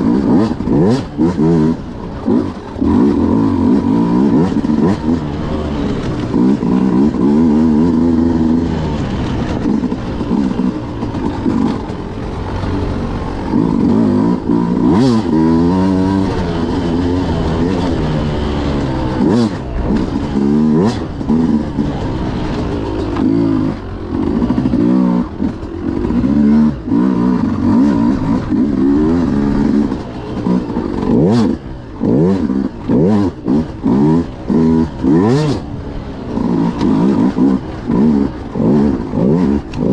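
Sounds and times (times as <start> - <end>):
knocks and clatter from bike: 0.0 - 39.9
motorcycle engine revving: 0.0 - 39.9.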